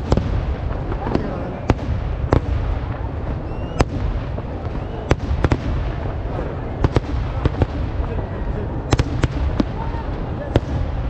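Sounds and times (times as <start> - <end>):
fireworks bangs: 0.0 - 11.0
rumble of distant blasts: 0.0 - 11.0.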